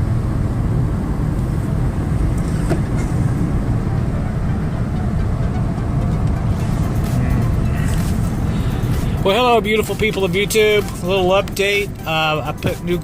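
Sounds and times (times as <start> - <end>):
vehicle rumble from inside cabin: 0.0 - 13.0.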